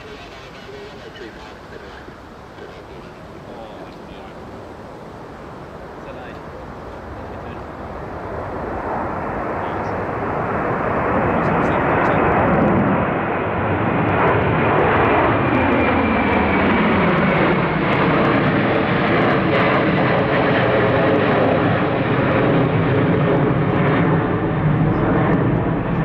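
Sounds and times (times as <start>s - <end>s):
jet engines roaring past: 0.0s - 26.0s.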